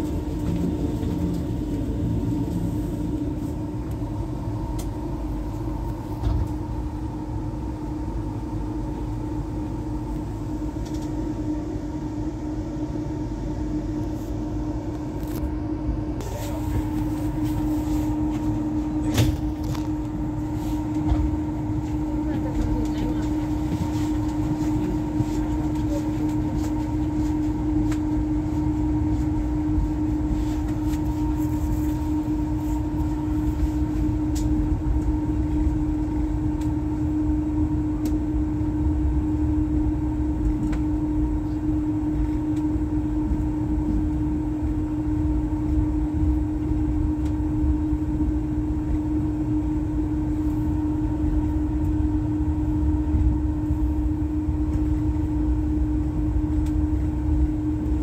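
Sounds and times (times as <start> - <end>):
constant hum: 0.0 - 58.0
train carriage rumble: 0.0 - 58.0.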